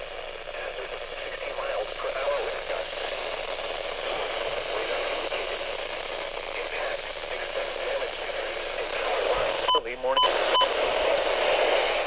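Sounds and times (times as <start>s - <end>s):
radio static hiss: 0.0s - 12.0s
faint voice: 0.5s - 12.0s.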